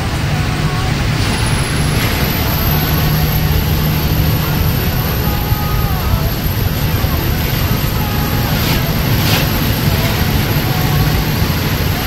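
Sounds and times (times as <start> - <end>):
road noise: 0.0 - 12.0
truck diesel engine running: 0.0 - 12.0.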